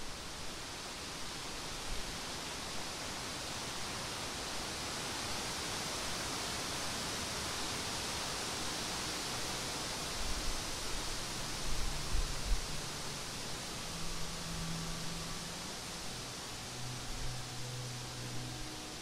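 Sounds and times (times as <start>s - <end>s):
wind rustling leaves and grass: 0.0s - 19.0s.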